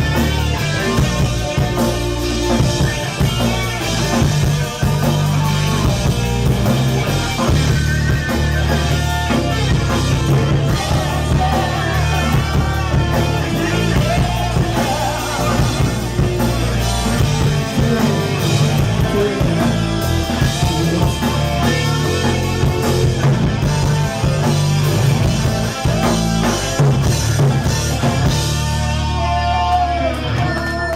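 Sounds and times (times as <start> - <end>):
rock band playing loudly: 0.0 - 30.9.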